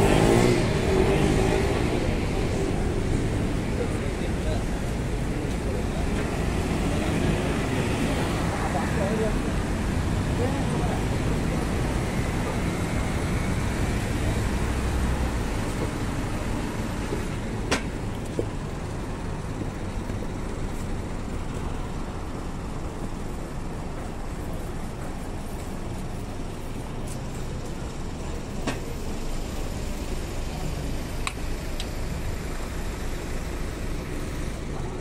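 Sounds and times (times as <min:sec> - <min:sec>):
heavy engine rumble: 0:00.0 - 0:35.0
vehicles passing: 0:00.0 - 0:35.0.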